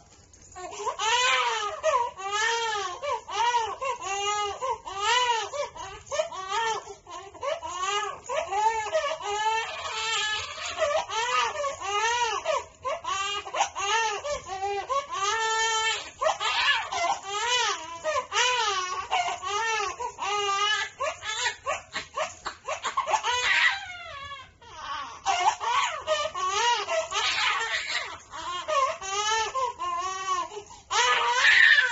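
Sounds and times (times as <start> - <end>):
infant crying: 0.6 - 31.9.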